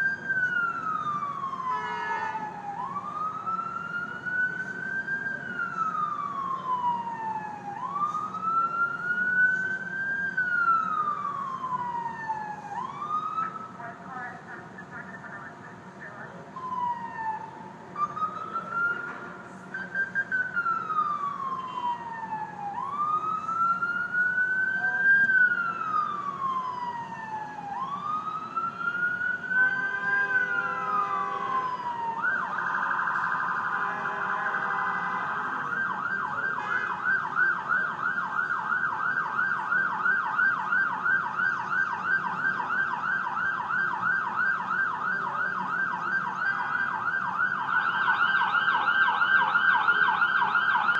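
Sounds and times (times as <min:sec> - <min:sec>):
ambulance siren: 0:00.0 - 0:50.9.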